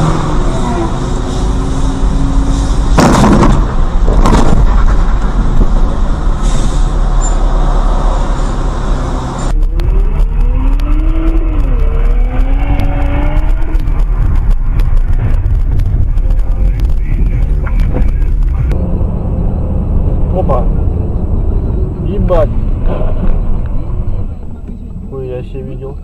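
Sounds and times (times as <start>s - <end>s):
low rumble with varying tone: 0.0s - 26.0s
tyres on wet road: 0.0s - 26.0s.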